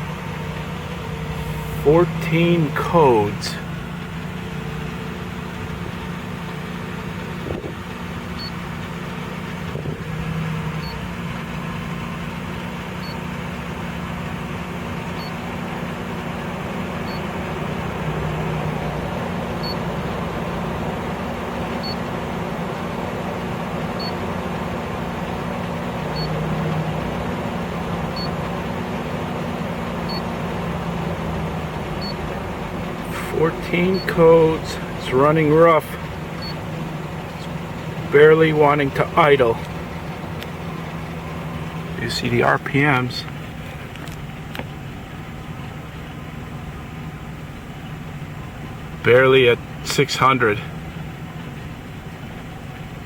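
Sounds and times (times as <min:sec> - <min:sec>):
car engine idling rough: 0:00.0 - 0:53.0.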